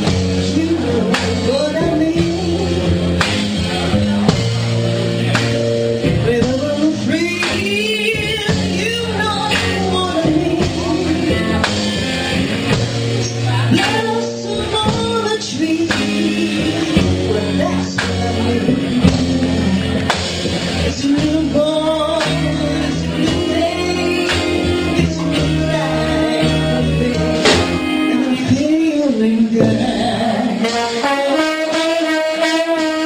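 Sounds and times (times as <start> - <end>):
guitar: 0.0 - 33.0
person singing: 0.0 - 33.0
slow band tune: 0.0 - 33.0.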